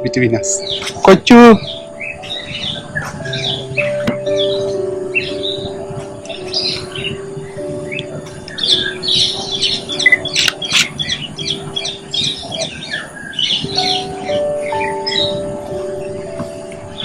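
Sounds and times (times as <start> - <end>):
soft background music: 0.0 - 17.0
birds squawking: 0.4 - 17.0.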